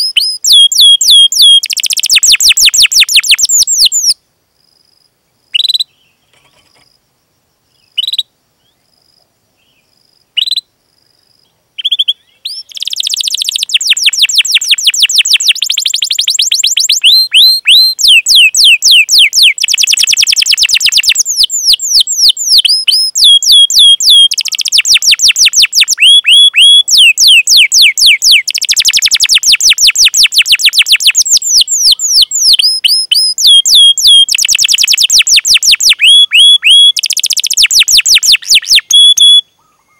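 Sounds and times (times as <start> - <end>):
canary singing trills: 0.0 - 4.2, 5.5 - 6.8, 7.7 - 8.8, 11.8 - 39.9.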